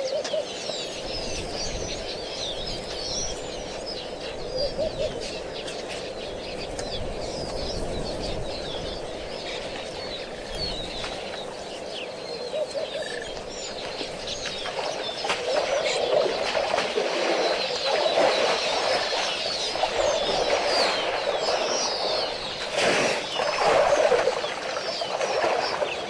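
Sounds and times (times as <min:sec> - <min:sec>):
wild birds chirping: 0:00.0 - 0:26.0.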